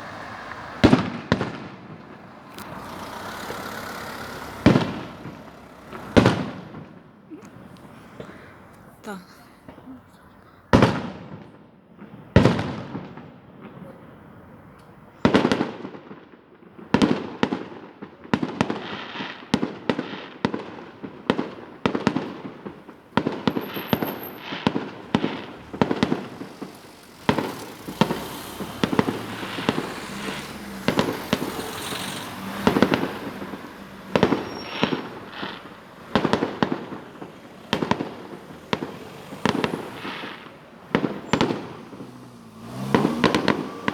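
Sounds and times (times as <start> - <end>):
fireworks crackling: 0.0 - 43.9
fireworks exploding: 0.0 - 43.9.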